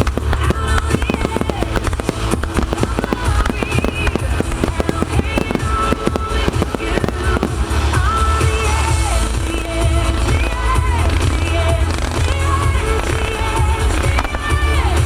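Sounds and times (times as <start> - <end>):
fireworks bursts and crackles: 0.0 - 15.0
loud music: 0.0 - 15.0.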